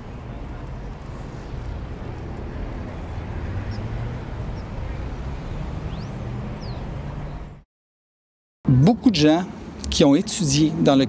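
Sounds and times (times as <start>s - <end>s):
low traffic rumble: 0.0s - 7.6s, 8.7s - 11.0s.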